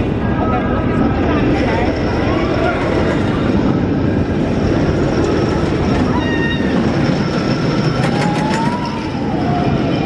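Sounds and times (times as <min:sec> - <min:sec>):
roller coaster rumbling on track: 0:00.0 - 0:10.0.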